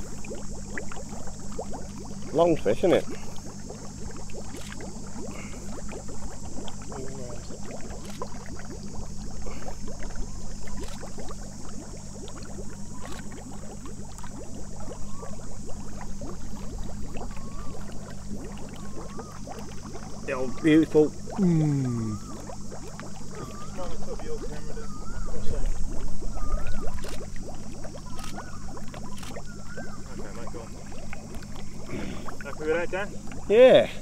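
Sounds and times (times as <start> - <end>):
low steady hum: 0.0 - 34.0
water sloshing and splashing: 0.0 - 34.0.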